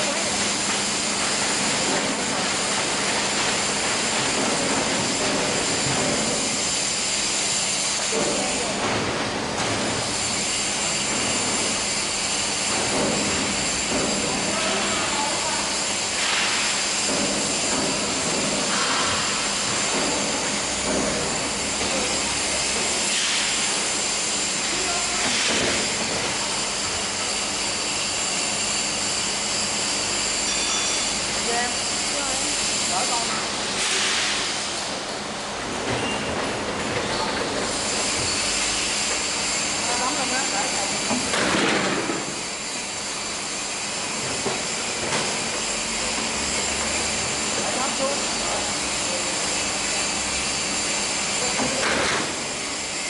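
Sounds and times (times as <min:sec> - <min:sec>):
roll-forming machine running: 0:00.0 - 0:53.0.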